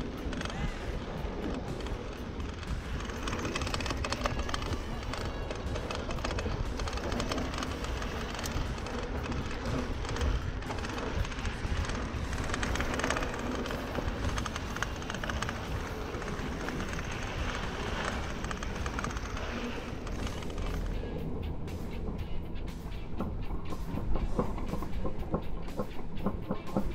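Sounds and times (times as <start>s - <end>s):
bike clattering over bumps: 0.0s - 26.9s
bike tyre noise on dirt: 0.0s - 26.9s.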